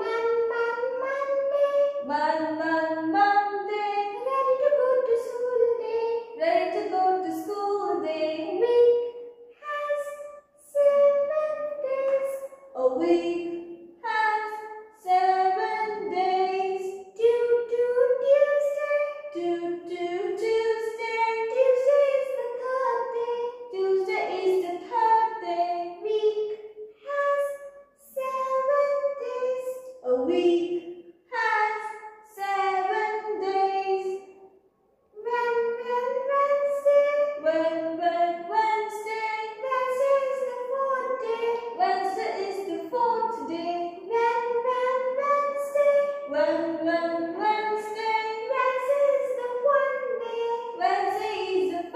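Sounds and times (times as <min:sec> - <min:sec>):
high voice singing children's song: 0:00.0 - 0:34.2, 0:35.1 - 0:51.9.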